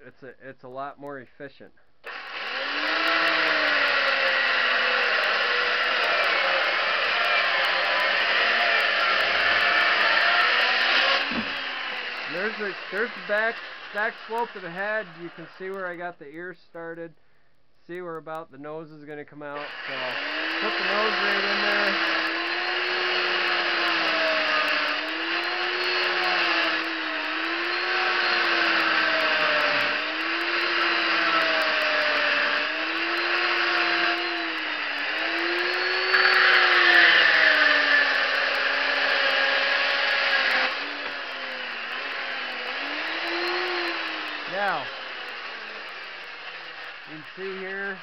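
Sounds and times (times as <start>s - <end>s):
chainsaw cutting wood: 2.0s - 15.9s, 19.6s - 48.0s.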